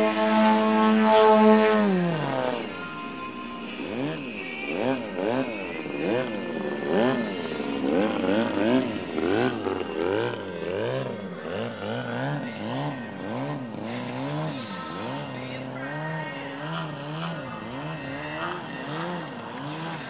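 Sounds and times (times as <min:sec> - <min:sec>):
model plane engine revving: 0:03.8 - 0:20.0.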